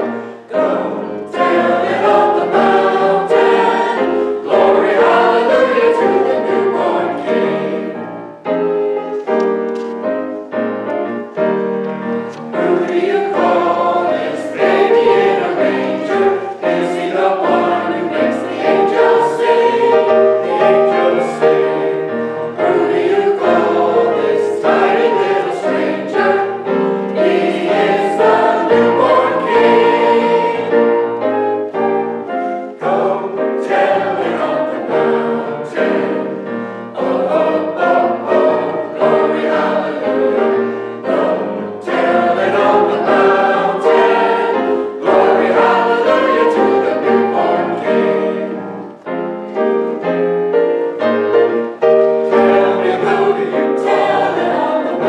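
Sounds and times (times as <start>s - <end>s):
choir singing gospel: 0.0s - 55.0s
piano accompaniment: 0.0s - 55.0s.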